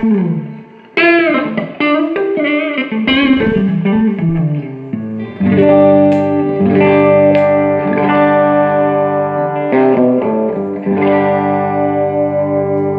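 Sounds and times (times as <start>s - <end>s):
electric guitar chords ringing: 0.0s - 12.9s.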